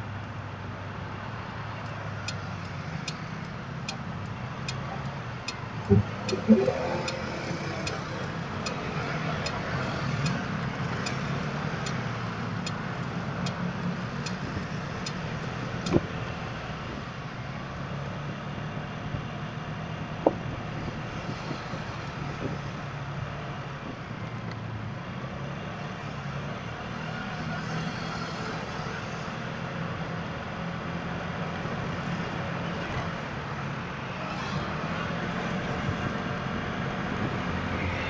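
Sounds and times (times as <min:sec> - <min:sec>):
passing vehicles: 0:00.0 - 0:38.0
road and wind noise: 0:00.0 - 0:38.0.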